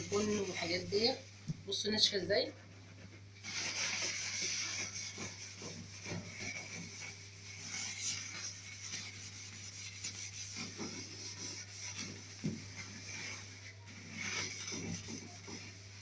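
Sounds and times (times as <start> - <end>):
steel wool scrubbing metal: 0.0 - 1.2, 3.4 - 16.0.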